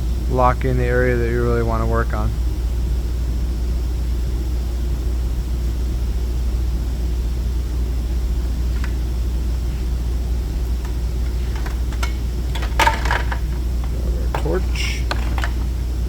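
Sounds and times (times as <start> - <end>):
steady low drone with hiss: 0.0 - 16.0.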